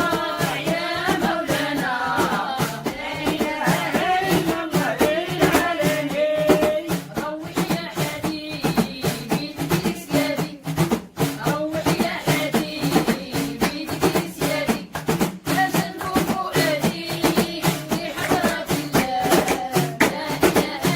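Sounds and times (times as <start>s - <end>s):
voices singing religious chant: 0.0s - 10.6s, 11.4s - 20.9s
hand drums beating: 0.0s - 20.9s.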